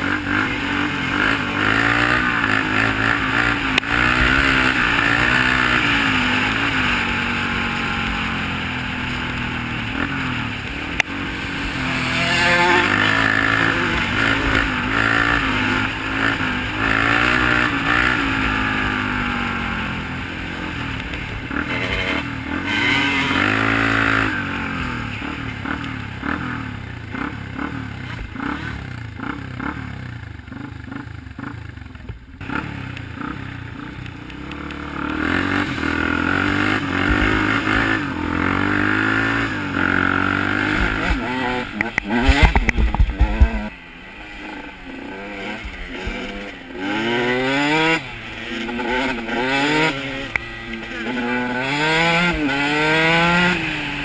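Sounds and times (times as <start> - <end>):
off-road vehicle engine revving: 0.0 - 31.5, 32.4 - 54.0.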